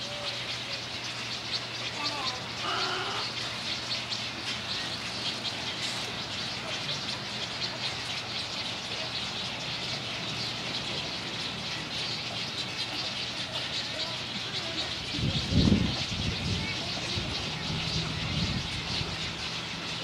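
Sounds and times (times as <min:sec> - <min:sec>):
colony of birds calling: 0:00.0 - 0:20.0.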